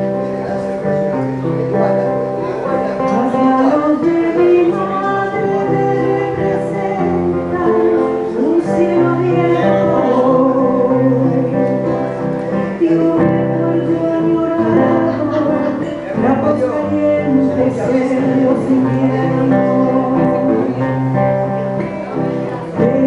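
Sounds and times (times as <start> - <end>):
acoustic guitar: 0.0 - 23.0
woman singing: 3.1 - 21.8, 22.6 - 23.0.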